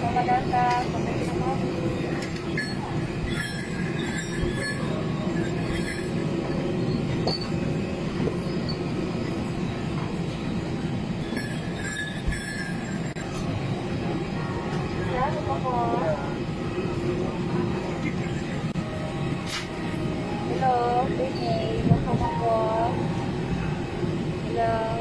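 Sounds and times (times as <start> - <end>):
airliner cabin drone: 0.0 - 25.0.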